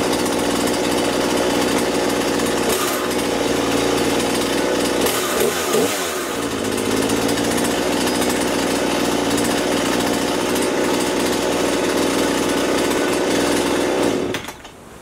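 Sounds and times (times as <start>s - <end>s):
chainsaw engine idling: 0.0s - 14.7s.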